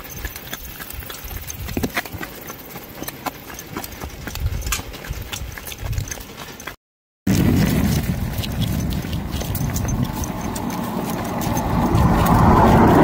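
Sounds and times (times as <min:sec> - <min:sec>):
hooves on dirt track: 0:00.0 - 0:13.0.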